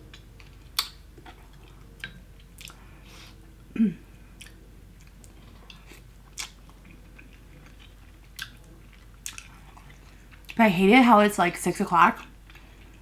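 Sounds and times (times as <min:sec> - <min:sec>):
person chewing food: 0:00.0 - 0:10.6, 0:12.2 - 0:13.0.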